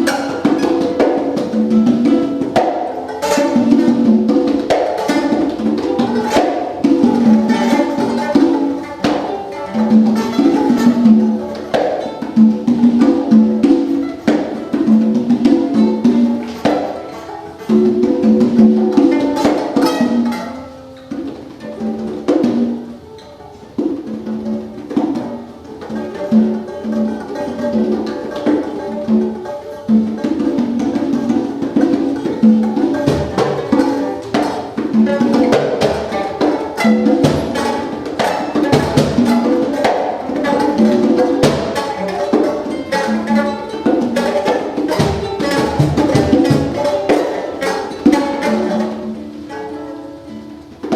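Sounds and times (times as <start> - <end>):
hand percussion: 0.0 - 50.9.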